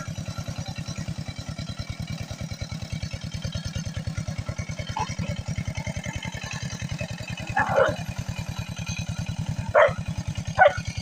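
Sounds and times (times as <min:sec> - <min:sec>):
tractor engine chugging: 0:00.0 - 0:11.0.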